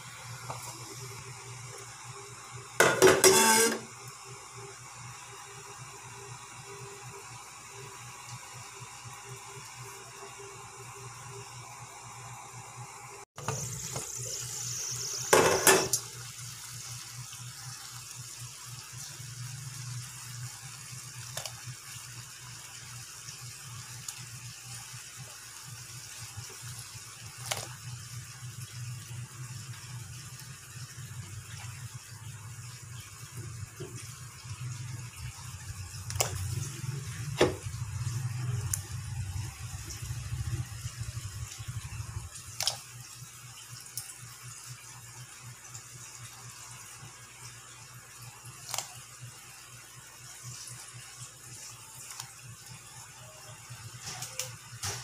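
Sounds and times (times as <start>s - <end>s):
water bubbling in a pot: 0.0s - 54.9s.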